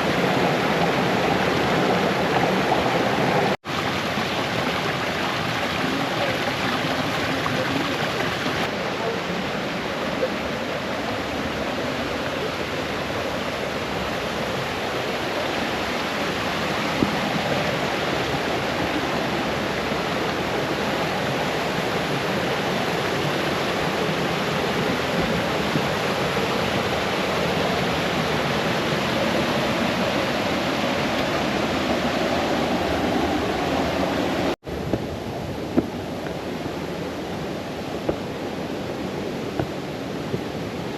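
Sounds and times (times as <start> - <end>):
brook cascading over stones: 0.0 - 40.9.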